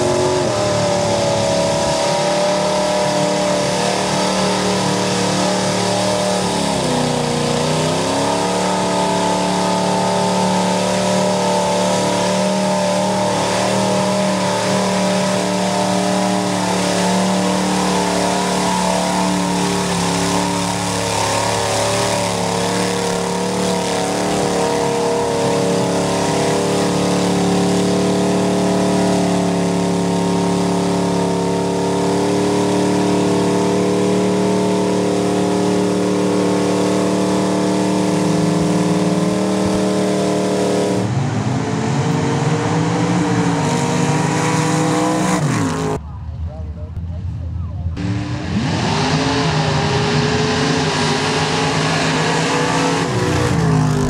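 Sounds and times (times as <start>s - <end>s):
truck engine revving in mud: 0.0s - 46.0s, 48.0s - 54.0s.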